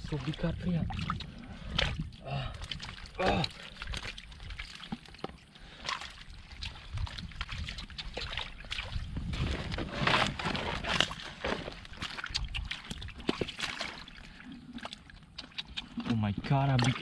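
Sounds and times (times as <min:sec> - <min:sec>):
hands splashing in muddy water: 0:00.0 - 0:17.0.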